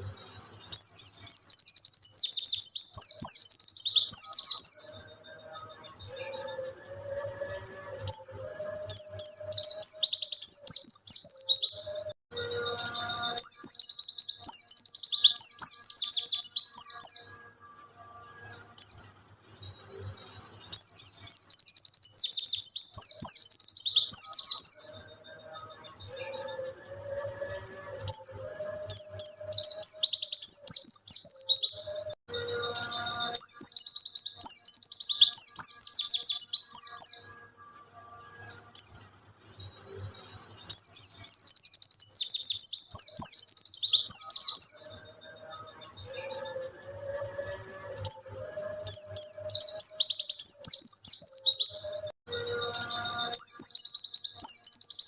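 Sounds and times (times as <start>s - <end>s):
bird high twittering song: 0.0s - 55.0s.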